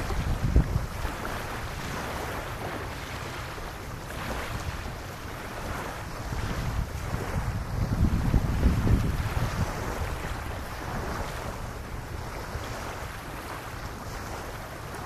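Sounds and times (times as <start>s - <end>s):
waves lapping on sandy shore: 0.0s - 15.0s
wind buffeting microphone: 0.0s - 15.0s.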